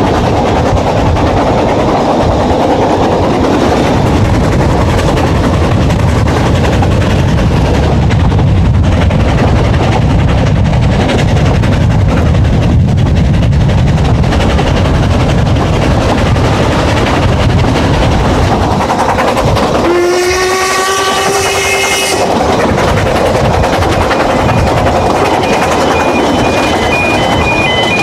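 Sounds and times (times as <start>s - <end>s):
train coaches rumbling on track: 0.0s - 28.0s.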